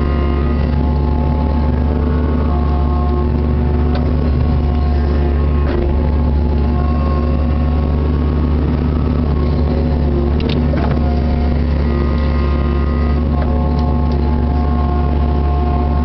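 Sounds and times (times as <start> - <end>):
excavator diesel engine running: 0.0 - 16.0
hydraulic whine: 0.0 - 16.0.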